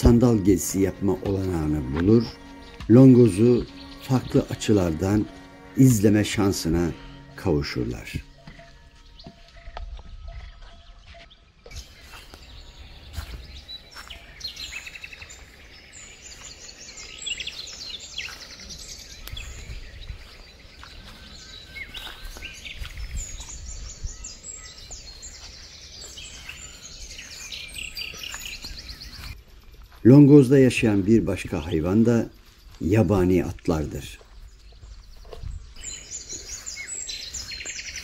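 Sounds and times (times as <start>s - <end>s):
birds chirping and trilling: 0.0s - 38.0s.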